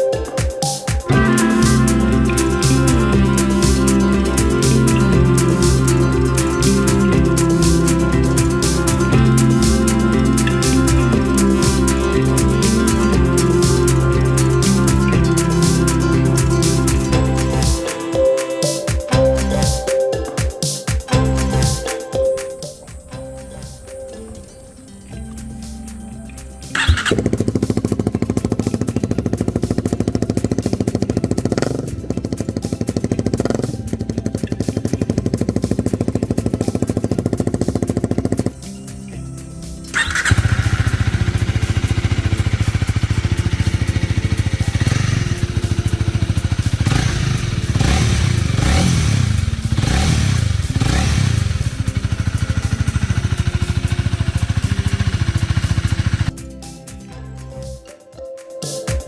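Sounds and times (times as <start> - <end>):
motorcycle engine idling and revving: 1.0 - 20.0, 23.2 - 56.4.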